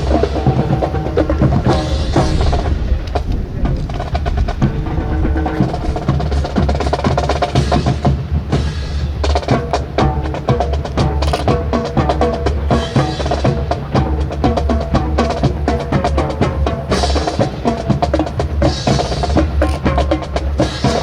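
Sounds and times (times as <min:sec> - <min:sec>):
marching band music: 0:00.0 - 0:21.0
snare drum rattle: 0:00.0 - 0:21.0.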